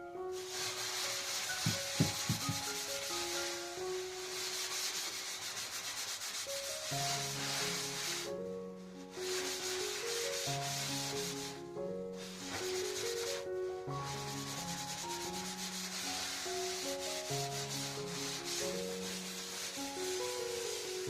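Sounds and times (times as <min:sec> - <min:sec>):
soft background music: 0:00.0 - 0:21.0
hard scrubbing strokes: 0:00.3 - 0:21.0.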